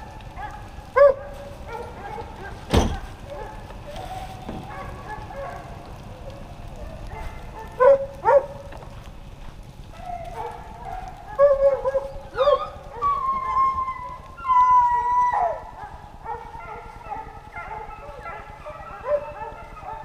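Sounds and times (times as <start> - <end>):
hounds baying and howling: 0.0 - 20.0.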